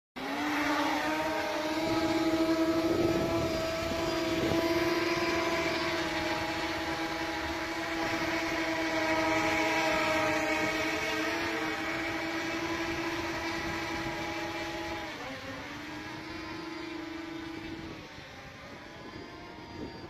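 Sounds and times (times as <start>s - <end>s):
drone motors humming: 0.2s - 20.0s.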